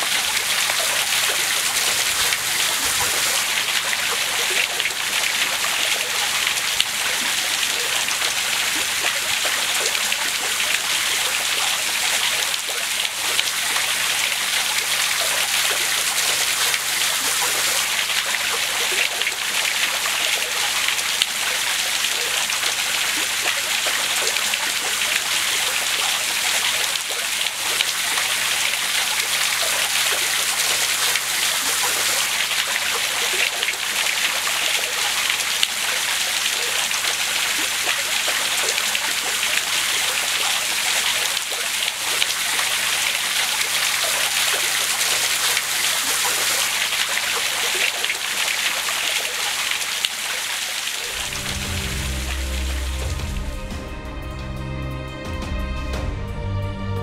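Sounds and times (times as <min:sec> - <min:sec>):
waterfall splashing into pool: 0:00.0 - 0:53.9.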